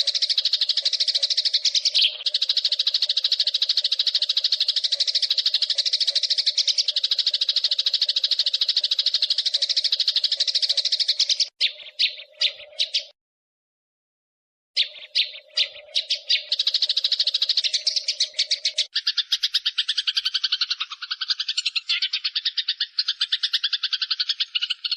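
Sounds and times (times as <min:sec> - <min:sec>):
sparrow chattering: 0:00.0 - 0:13.2, 0:14.8 - 0:24.9.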